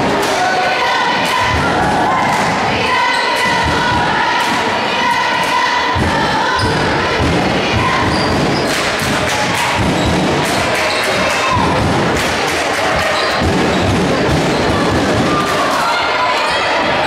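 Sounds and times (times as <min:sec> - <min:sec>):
gym noise: 0:00.0 - 0:17.0.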